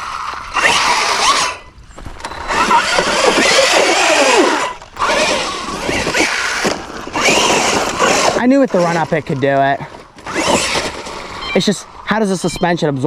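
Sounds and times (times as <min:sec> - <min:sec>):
electric motor whining: 0:00.0 - 0:09.2, 0:10.2 - 0:11.5
tyres scrabbling over dirt: 0:00.0 - 0:12.2.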